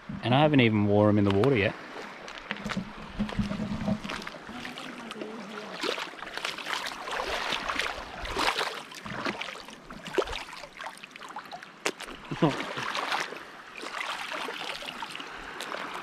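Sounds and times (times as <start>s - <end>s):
trickling water: 0.0s - 16.0s
footsteps wading through water: 1.2s - 16.0s.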